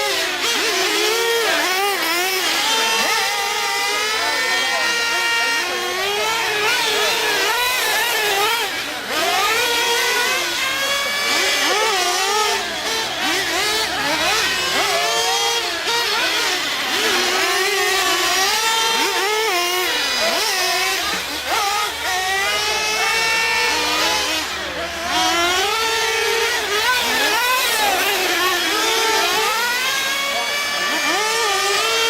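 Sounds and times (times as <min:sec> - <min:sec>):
rc truck engines revving: 0:00.0 - 0:32.0.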